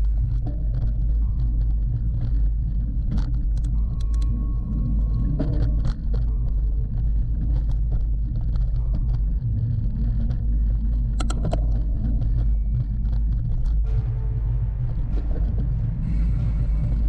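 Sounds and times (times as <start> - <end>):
bike clicks and rattles: 0.0 - 14.0
wind and tyres rumbling: 0.0 - 17.0.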